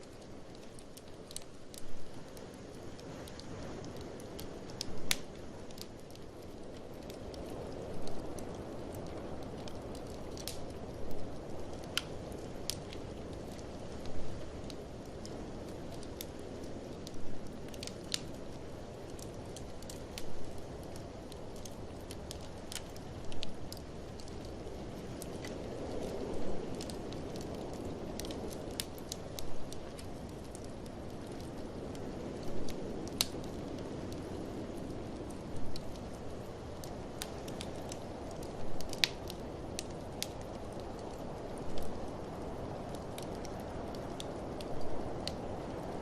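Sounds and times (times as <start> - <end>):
sharp pops from fire: 0.0 - 46.0
wood fire crackling: 0.0 - 46.0.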